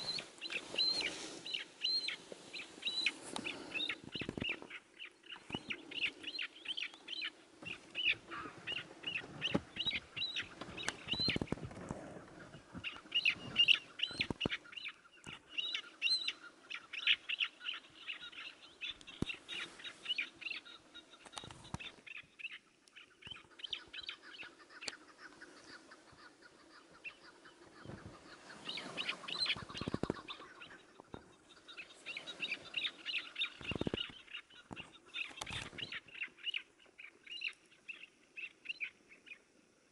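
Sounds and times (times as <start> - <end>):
partridges calling: 0.0 - 39.5.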